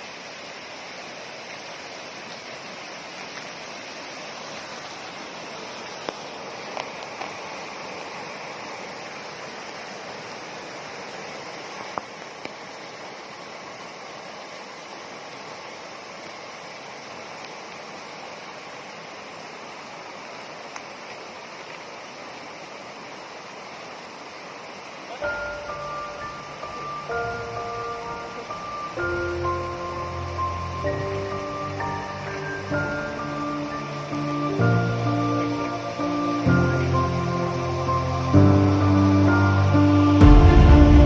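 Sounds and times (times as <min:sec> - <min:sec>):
flowing water rushing: 0:00.0 - 0:41.0.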